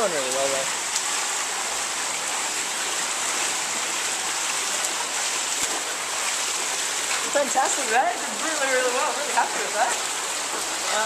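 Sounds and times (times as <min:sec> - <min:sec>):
swimmer splashing water: 0:00.0 - 0:11.0.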